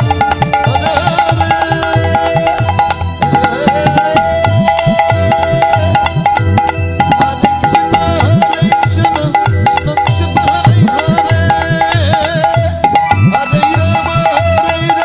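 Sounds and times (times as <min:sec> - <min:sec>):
keyboard melody: 0:00.0 - 0:15.0
khol drum beating: 0:00.0 - 0:15.0.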